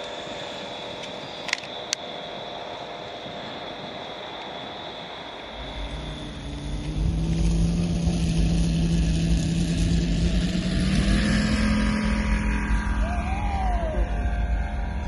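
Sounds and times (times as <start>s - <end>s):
model aircraft engine running: 0.0s - 15.0s.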